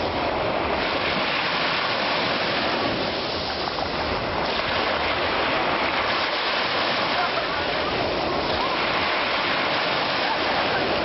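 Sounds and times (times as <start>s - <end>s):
sea waves washing ashore: 0.0s - 11.0s.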